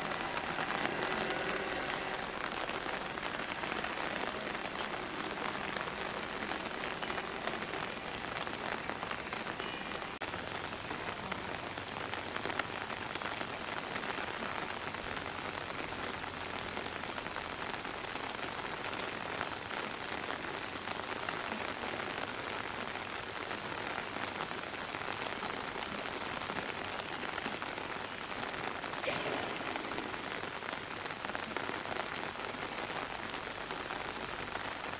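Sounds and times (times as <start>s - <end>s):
rain falling on water: 0.0s - 34.9s.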